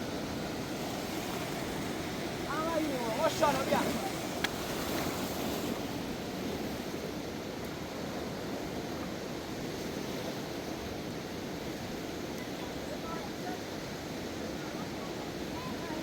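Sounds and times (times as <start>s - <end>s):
flooded river rushing: 0.0s - 16.0s.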